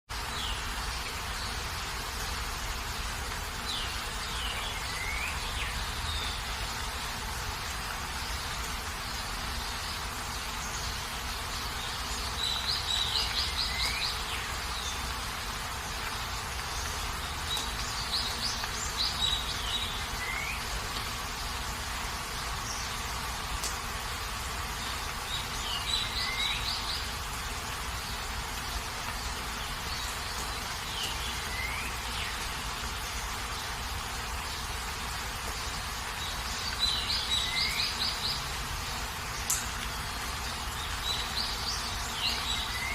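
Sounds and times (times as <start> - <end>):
steady rain hiss: 0.1 - 42.9
birds chirping and trilling: 0.2 - 42.9.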